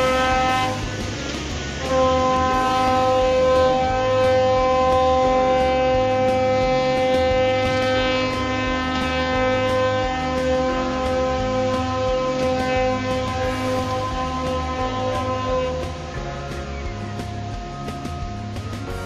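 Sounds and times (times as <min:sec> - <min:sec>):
ship's horn blast: 0:00.0 - 0:19.0.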